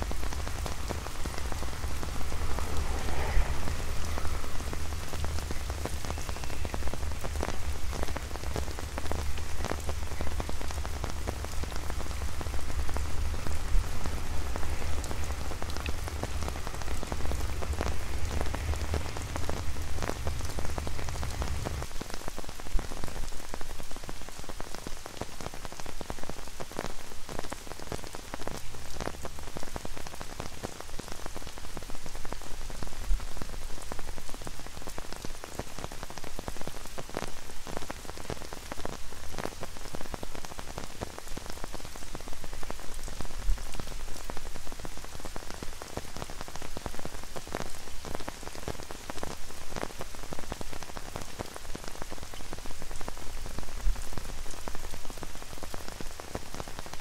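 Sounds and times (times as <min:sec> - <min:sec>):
rain hissing on wet paving: 0:00.0 - 0:57.0.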